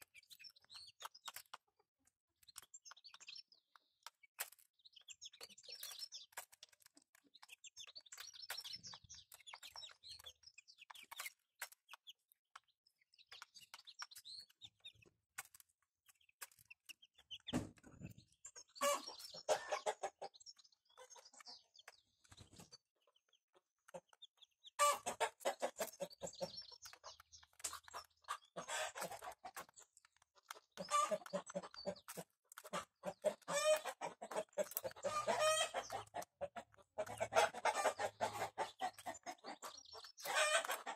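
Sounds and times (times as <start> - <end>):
beaks pecking on metal trough: 0.0 - 40.9
chickens clucking and calling: 0.0 - 40.9.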